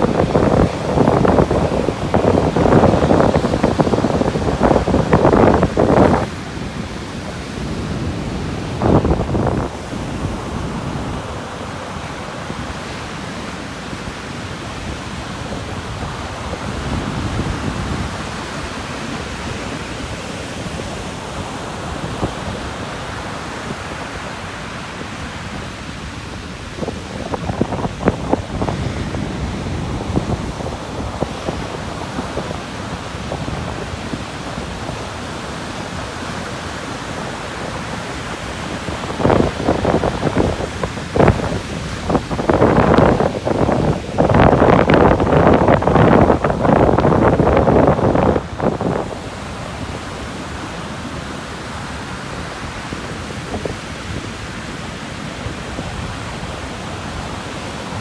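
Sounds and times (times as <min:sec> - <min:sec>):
sea waves washing onto beach: 0:00.0 - 0:58.0
wind buffeting microphone: 0:00.0 - 0:58.0.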